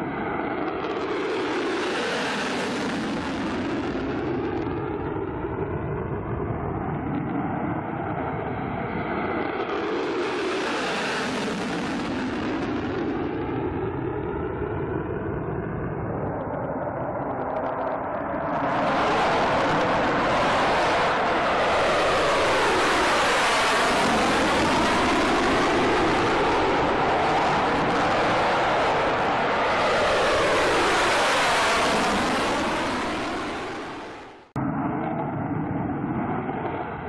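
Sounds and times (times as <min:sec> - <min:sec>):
jet engine rumble and hiss: 0:00.0 - 0:37.0.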